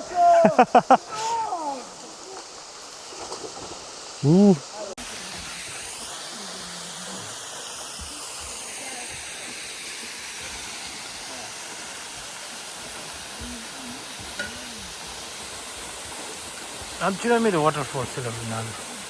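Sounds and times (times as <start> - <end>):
waterfall pouring into pool: 0.1 - 19.0.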